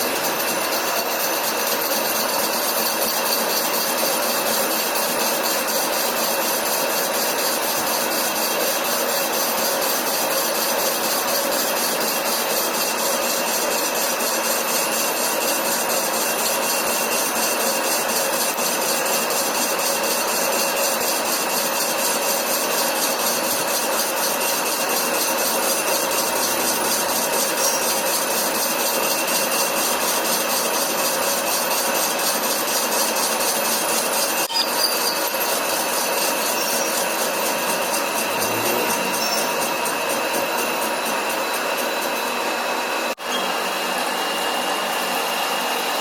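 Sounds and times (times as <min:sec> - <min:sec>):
metal lathe running: 0:00.0 - 0:46.0
steady machine whine: 0:00.0 - 0:46.0.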